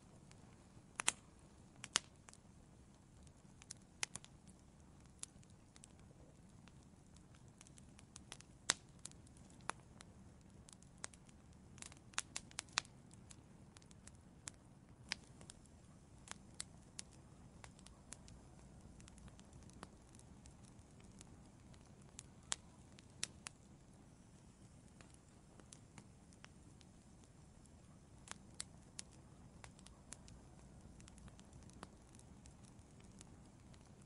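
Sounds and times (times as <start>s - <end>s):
low rumble of flames: 0.0s - 34.0s
wood fire crackling: 0.0s - 34.0s.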